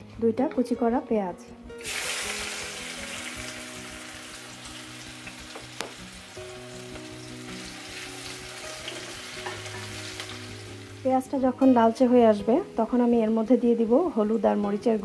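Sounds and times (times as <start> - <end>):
onions sizzling in oil: 1.8 - 14.7.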